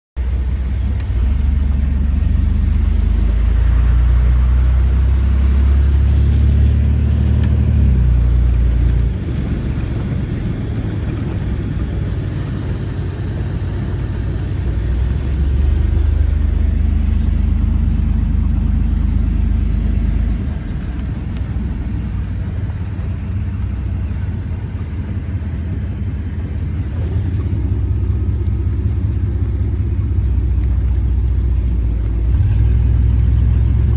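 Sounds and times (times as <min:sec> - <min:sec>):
car engine and road noise: 0:00.1 - 0:33.9.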